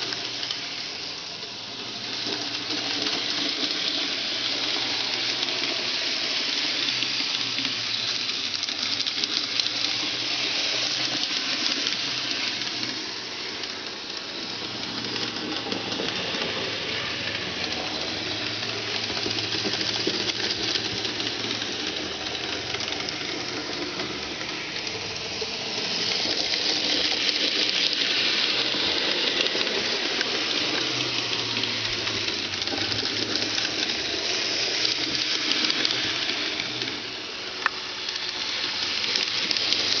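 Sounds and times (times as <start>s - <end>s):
model train whirring and rattling: 0.0s - 40.0s.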